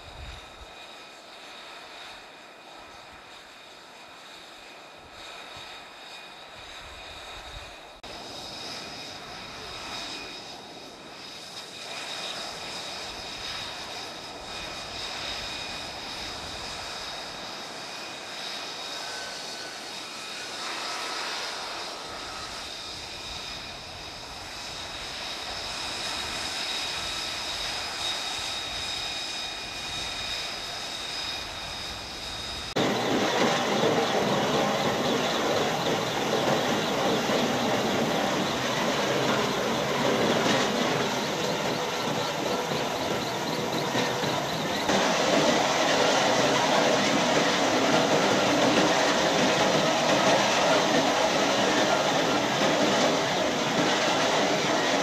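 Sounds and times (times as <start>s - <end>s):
jet engine roar: 0.0s - 55.0s
jet engine whine: 0.0s - 55.0s.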